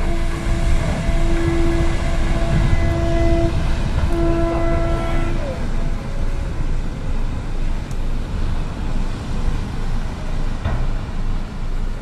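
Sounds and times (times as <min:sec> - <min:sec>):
churning water rumble: 0:00.0 - 0:12.0.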